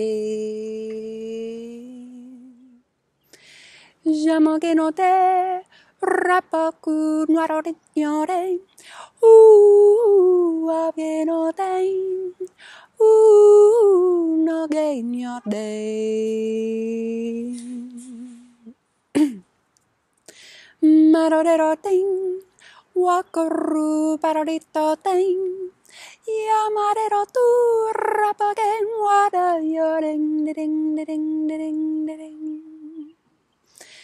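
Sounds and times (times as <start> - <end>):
woman singing wordless syllables: 0.0 - 2.8, 3.4 - 19.5, 20.8 - 33.2.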